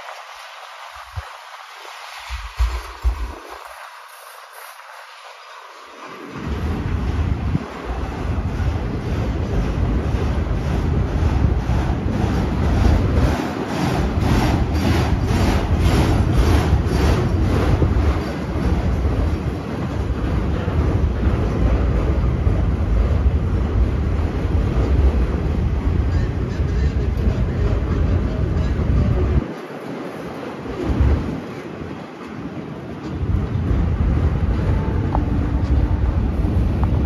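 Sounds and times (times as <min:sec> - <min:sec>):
train wheels rumbling on rail: 0:00.1 - 0:37.0
wheels clicking on rail: 0:02.0 - 0:37.0.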